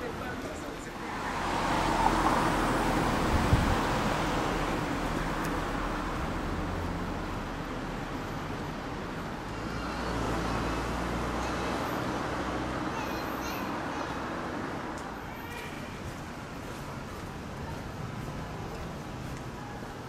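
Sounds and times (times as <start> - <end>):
cars passing: 0.0 - 20.0.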